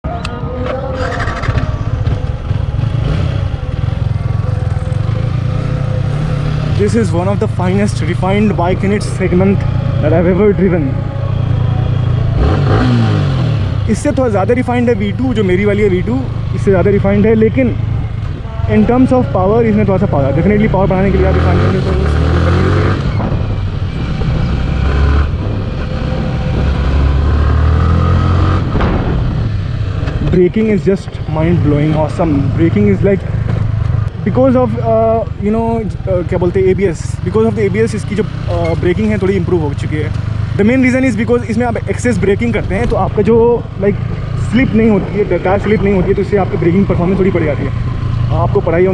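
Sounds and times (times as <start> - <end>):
motorcycle engine running: 0.7 - 48.9.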